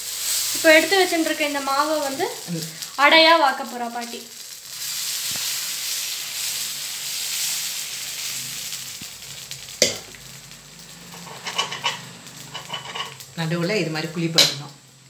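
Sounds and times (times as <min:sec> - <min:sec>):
batter sizzling on a griddle: 0:00.0 - 0:15.0.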